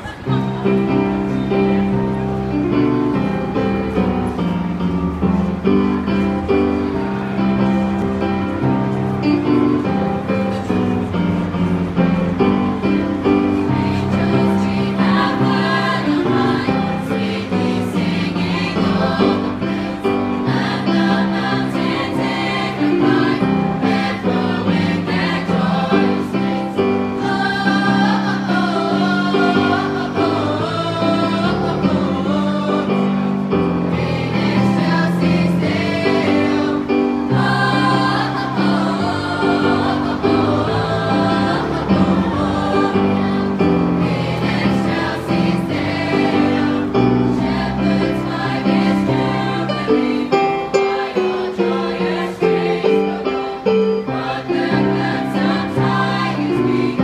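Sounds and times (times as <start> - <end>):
choir singing: 5.7 - 57.0.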